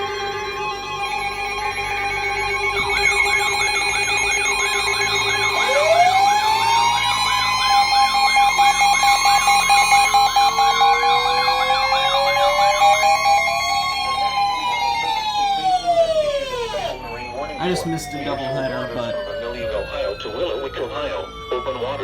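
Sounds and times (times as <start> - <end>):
electronic siren yelp: 0.0 - 22.0
siren winding up: 0.0 - 22.0
steady alarm tones: 0.0 - 22.0.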